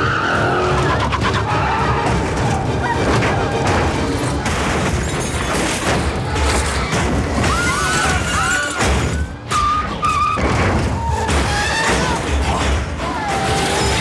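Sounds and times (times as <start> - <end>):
dramatic music score: 0.0 - 14.0
crashes and heavy thuds: 0.7 - 14.0.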